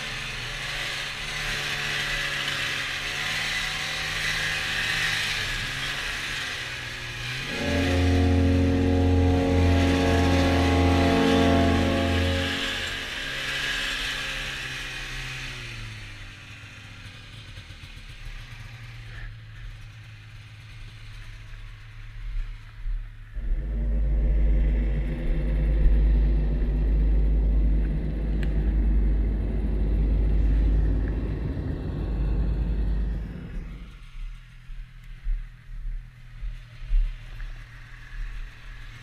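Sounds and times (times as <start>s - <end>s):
snowmobile engine: 0.0s - 34.7s.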